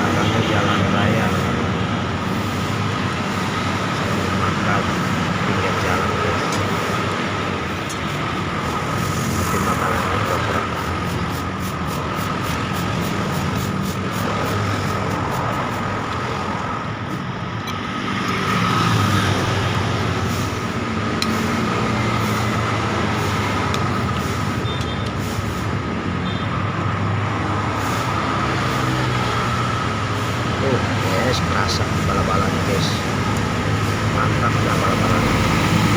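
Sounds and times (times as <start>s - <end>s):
busy road traffic: 0.0s - 35.9s.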